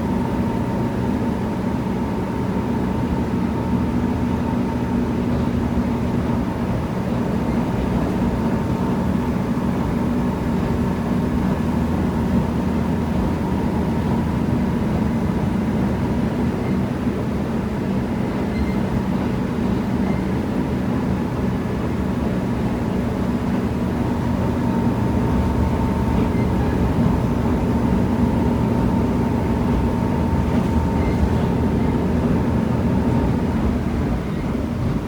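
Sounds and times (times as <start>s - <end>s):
railcar engine rumble: 0.0s - 35.0s.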